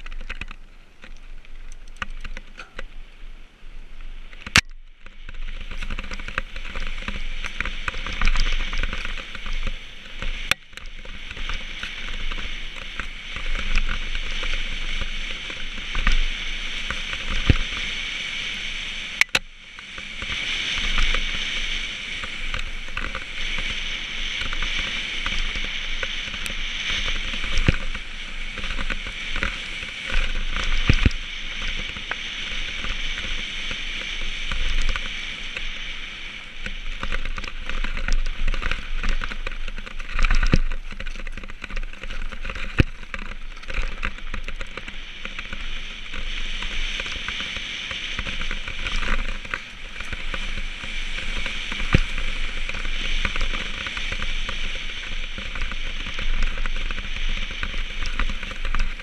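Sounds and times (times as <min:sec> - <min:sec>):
bike knocking and rattling: 0:00.0 - 0:03.1, 0:04.1 - 0:59.0
bike tyre and trail noise: 0:00.0 - 0:59.0.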